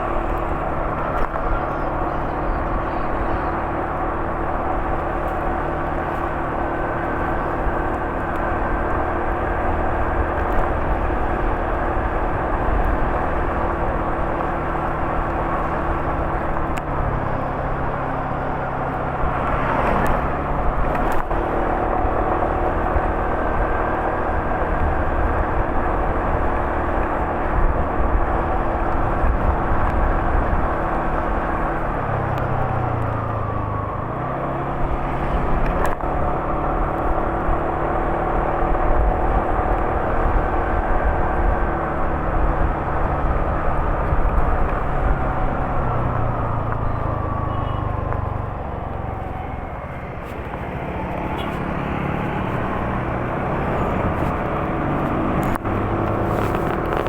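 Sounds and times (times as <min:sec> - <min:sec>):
vehicle engine humming: 0:00.0 - 0:57.0.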